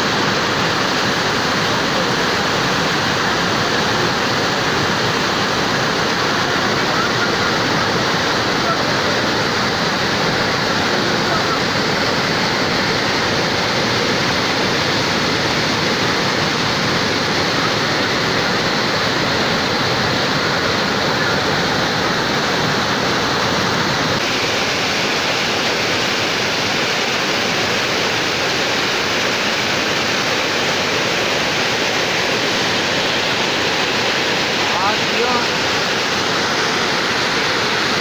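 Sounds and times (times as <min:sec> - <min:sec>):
floodwater rushing down steps: 0:00.0 - 0:38.0.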